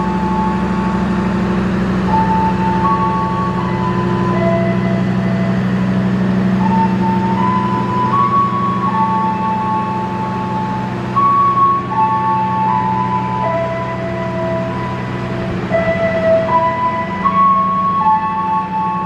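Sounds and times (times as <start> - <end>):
train coaches rumbling past: 0.0 - 19.0.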